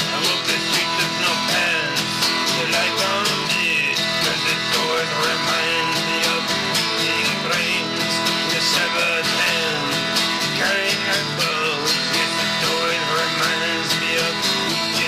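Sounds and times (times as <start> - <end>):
man singing rock song: 0.0 - 15.0
strummed acoustic guitar: 0.0 - 15.0.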